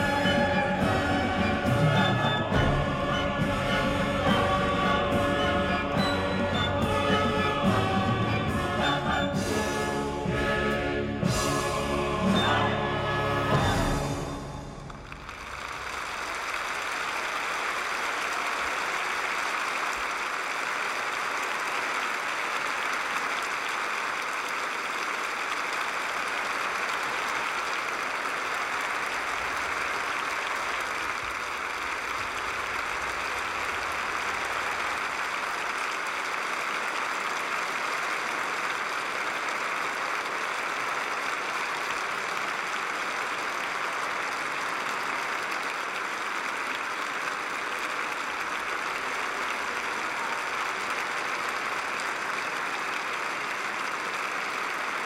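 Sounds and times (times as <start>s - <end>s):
large audience applauding: 0.0s - 10.0s, 13.5s - 55.0s.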